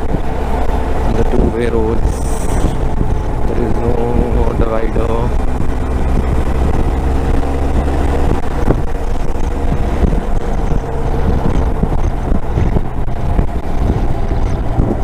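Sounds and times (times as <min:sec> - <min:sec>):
low buffeting thumps: 0:00.0 - 0:15.0
motorcycle engine cruising: 0:00.0 - 0:15.0
wind noise on microphone: 0:00.0 - 0:15.0.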